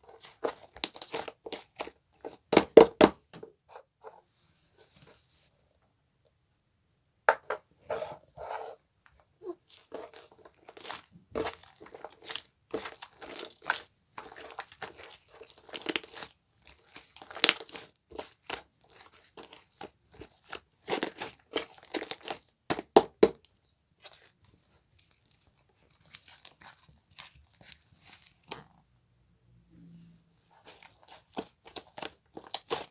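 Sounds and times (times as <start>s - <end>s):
crinkling and crunching handling: 0.0s - 5.4s, 7.9s - 28.8s, 30.3s - 32.9s.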